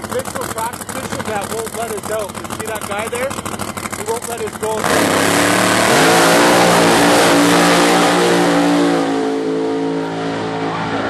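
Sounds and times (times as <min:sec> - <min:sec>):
drag racing car engine: 0:00.0 - 0:11.0.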